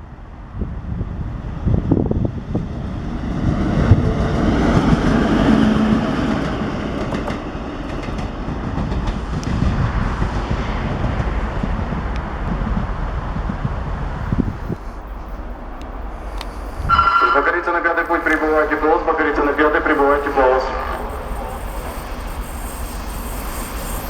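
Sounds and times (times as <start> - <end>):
train wheels rumbling on rails: 0.5 - 24.0.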